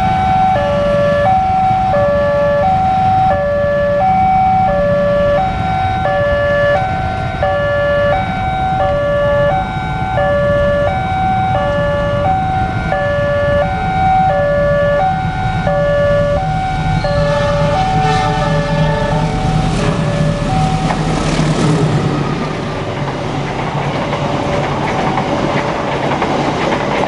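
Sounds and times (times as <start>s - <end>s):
level crossing alarm warbling: 0.0s - 22.1s.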